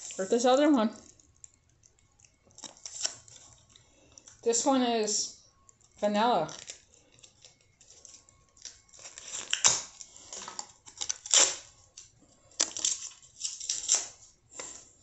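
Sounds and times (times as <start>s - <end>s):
packaging crinkling: 0.0s - 4.4s, 5.8s - 14.9s.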